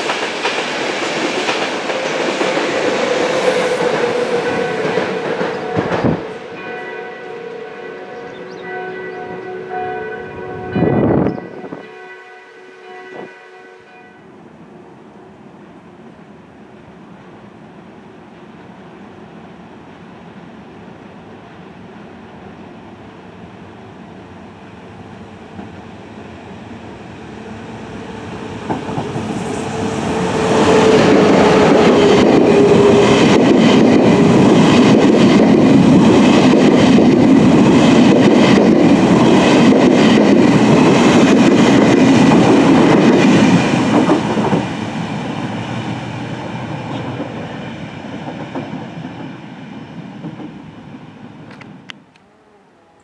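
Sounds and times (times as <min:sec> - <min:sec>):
train coaches rumbling: 0:00.0 - 0:12.1, 0:15.3 - 0:51.9
electric locomotive whine: 0:00.0 - 0:53.0.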